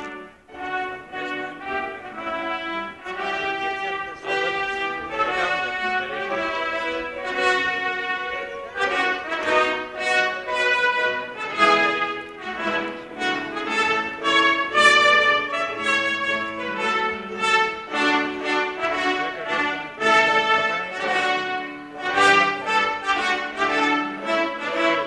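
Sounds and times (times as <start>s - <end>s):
brass instruments playing chords: 0.0s - 25.0s.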